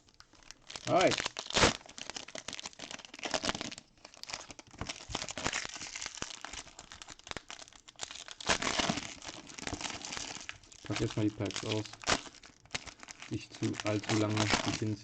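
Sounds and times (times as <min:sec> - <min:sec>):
plastic wrapping crinkling and tearing: 0:00.0 - 0:15.0.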